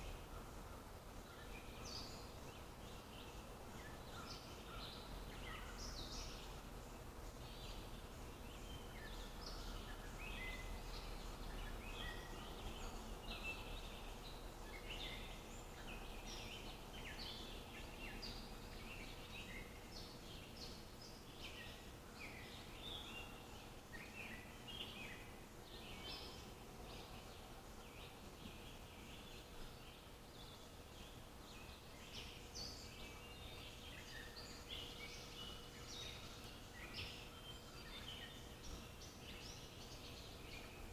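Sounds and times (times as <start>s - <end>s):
faint background hiss and hum: 0.0s - 40.9s
songbirds chirping: 0.0s - 40.9s.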